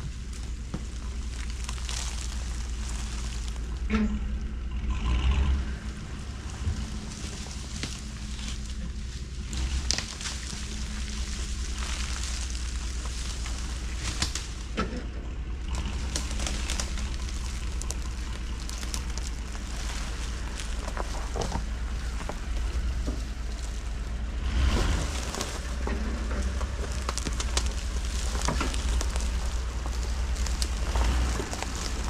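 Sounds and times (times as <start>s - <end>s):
crackles and snaps: 0.0s - 32.0s
truck engine running at low speed: 0.0s - 32.0s.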